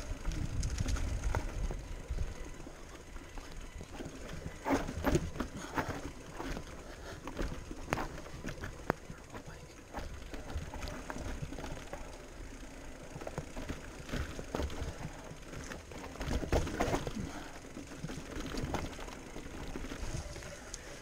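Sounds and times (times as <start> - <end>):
bike frame and chain rattling: 0.0 - 21.0
tyres rumbling on rocky trail: 0.0 - 21.0
wind: 0.0 - 21.0.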